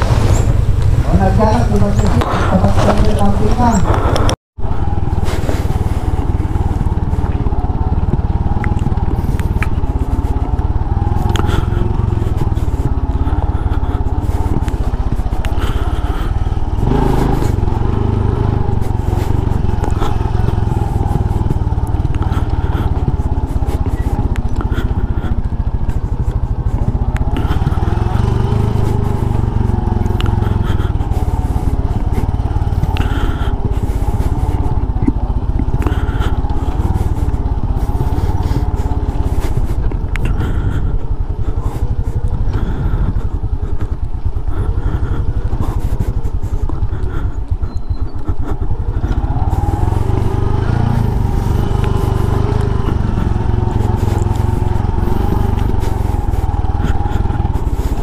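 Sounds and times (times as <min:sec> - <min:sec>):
low rumble: 0:00.0 - 0:58.0
small motorcycle engine running: 0:00.0 - 0:58.0.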